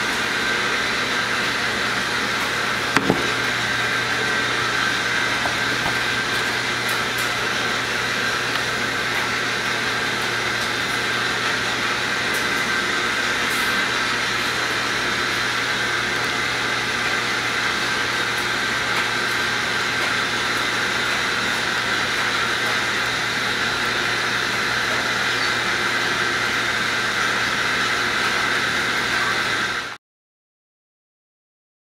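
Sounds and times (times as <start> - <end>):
machine whirring with low hum: 0.0 - 30.0.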